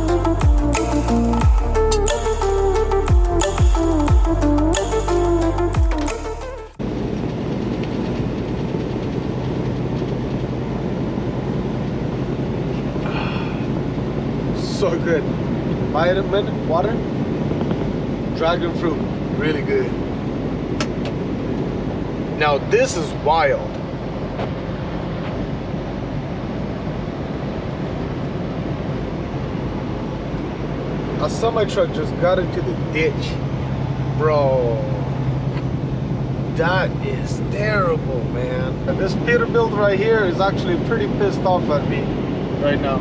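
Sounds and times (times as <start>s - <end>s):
truck cab road and engine drone: 0.0s - 43.0s.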